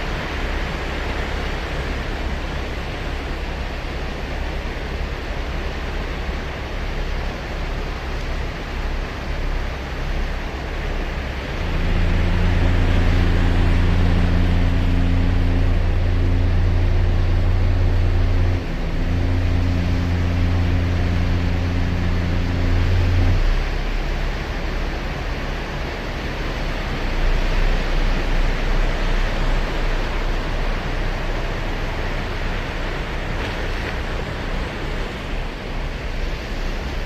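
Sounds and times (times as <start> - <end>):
low droning engine hum: 0.0 - 37.0
surf on a sandy beach: 0.0 - 37.0.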